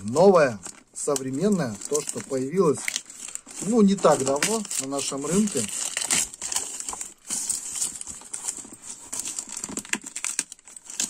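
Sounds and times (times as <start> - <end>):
plastic mailer bag rustling and tearing: 0.0 - 11.0.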